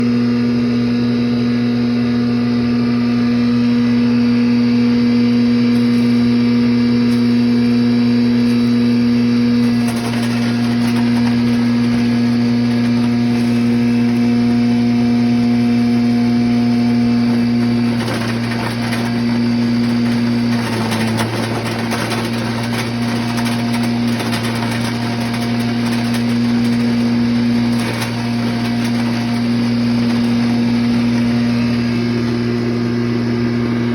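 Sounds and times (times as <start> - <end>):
wood chipper grinding: 0.0 - 33.9.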